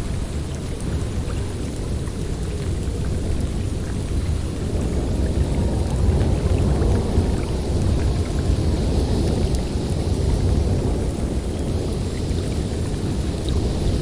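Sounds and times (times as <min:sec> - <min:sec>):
snowstorm wind through forest: 0:00.0 - 0:14.0.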